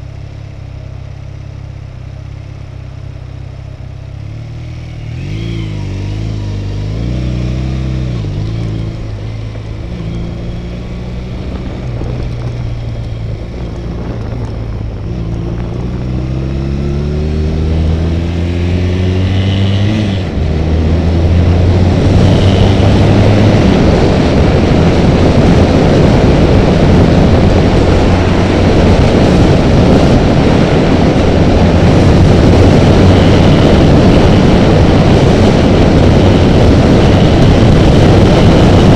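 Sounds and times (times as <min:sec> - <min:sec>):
motorcycle engine revving: 0:00.7 - 0:38.9
wind rushing on camera: 0:01.6 - 0:38.9.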